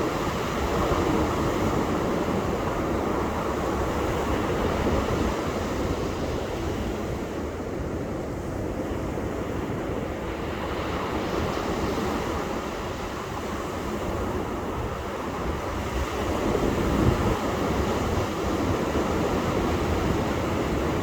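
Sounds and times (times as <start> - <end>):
ocean waves breaking on beach: 0.0 - 21.0
wind rumble on microphone: 0.0 - 21.0.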